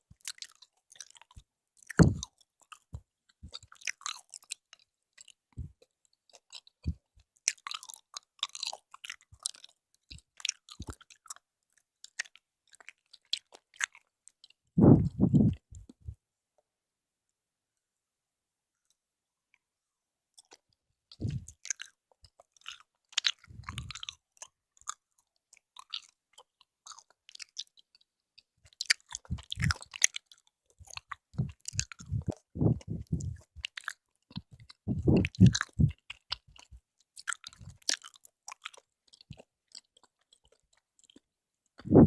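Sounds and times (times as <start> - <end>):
wet chewing and mouth clicks: 0.0 - 16.2, 20.3 - 42.0.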